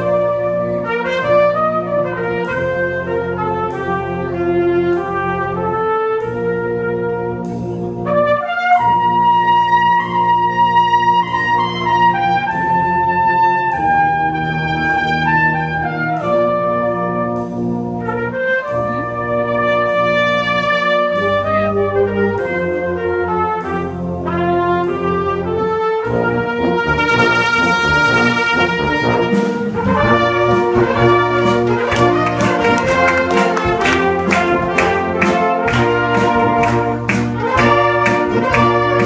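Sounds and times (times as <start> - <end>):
brass band playing slow piece: 0.0 - 39.0
solo trumpet melody: 0.0 - 39.0.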